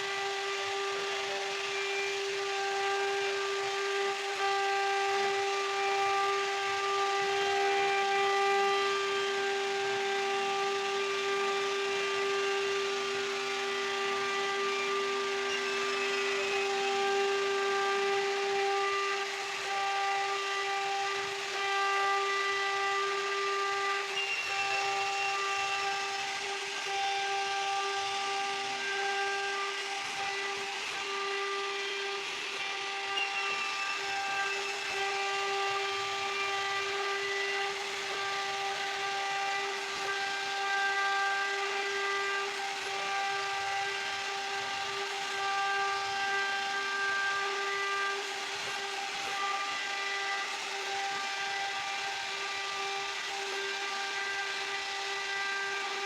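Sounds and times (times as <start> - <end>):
bit cutting wood: 0.0 - 56.0
router spindle high whine: 0.0 - 56.0.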